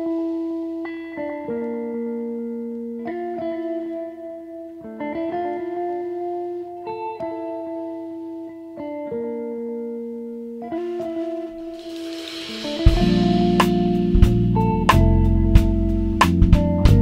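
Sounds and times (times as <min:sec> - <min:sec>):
guitar background music: 0:00.0 - 0:17.0.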